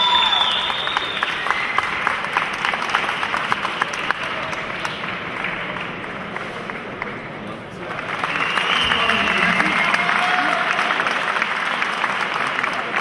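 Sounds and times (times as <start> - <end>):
audience applauding: 0.0 - 7.2, 7.8 - 13.0.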